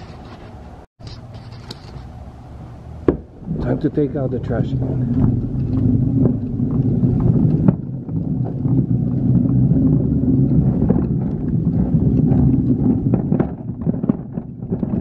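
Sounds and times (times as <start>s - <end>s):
bin wheels rolling on concrete: 0.0s - 15.0s.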